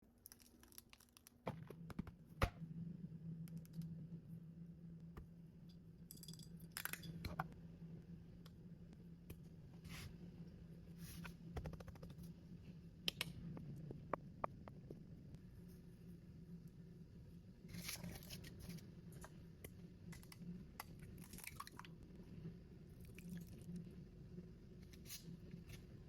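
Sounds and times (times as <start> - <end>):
steady low hum: 1.6 - 26.0.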